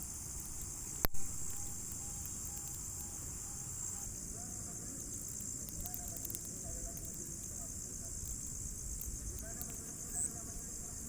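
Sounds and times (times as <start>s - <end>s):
crickets and night insects chorus: 0.0s - 11.0s.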